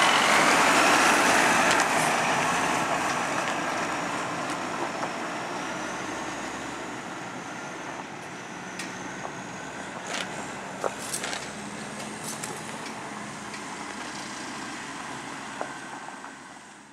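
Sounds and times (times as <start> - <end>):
garbage truck diesel engine: 0.0 - 16.9.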